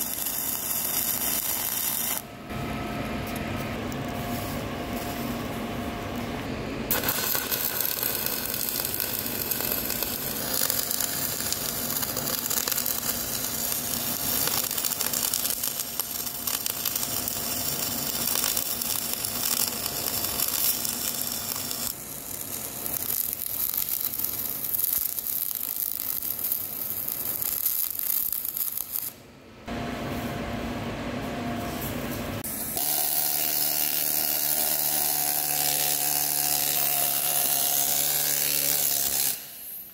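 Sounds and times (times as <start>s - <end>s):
welding arc crackling hiss: 0.0s - 2.3s, 3.3s - 29.2s, 32.4s - 39.9s.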